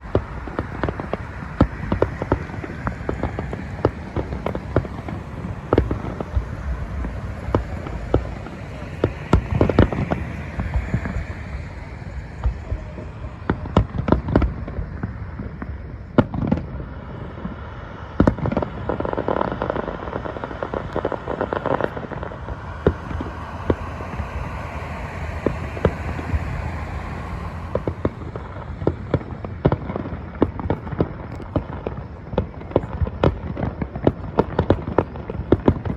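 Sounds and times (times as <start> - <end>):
firework bangs: 0.0 - 35.9
steady background rumble: 0.0 - 35.9.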